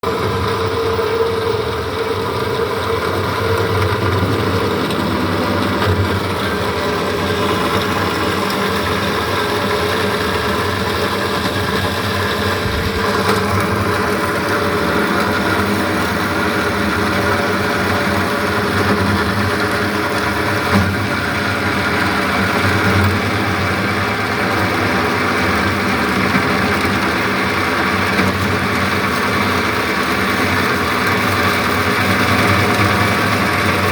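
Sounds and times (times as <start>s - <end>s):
bandsaw humming: 2.2s - 33.9s.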